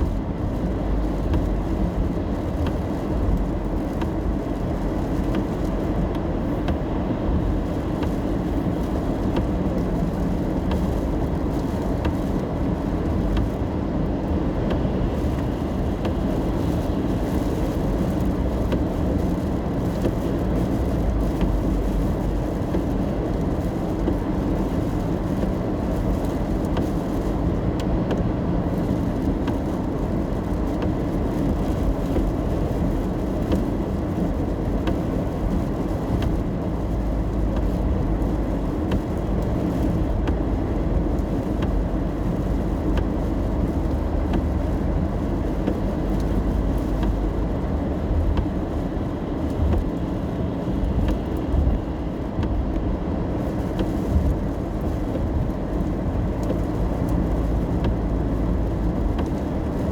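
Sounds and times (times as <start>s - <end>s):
car tyre and engine rumble: 0.0s - 59.9s
light rain ticks: 0.0s - 59.9s.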